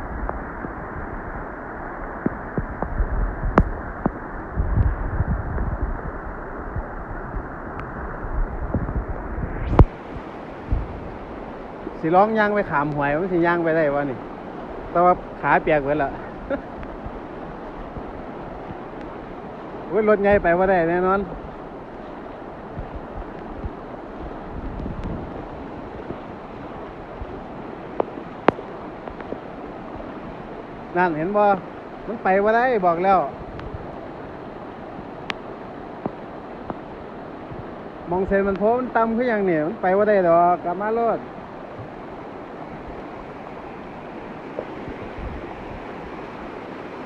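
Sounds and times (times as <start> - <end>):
wind buffeting microphone: 0.0 - 30.9, 33.2 - 38.8, 41.4 - 47.0
floodwater rushing: 0.0 - 47.0.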